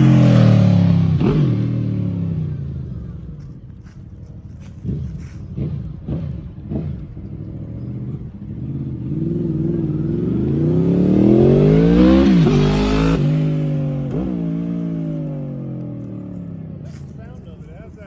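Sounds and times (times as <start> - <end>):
motorcycle engine revving and accelerating: 0.0 - 3.5, 4.5 - 17.1.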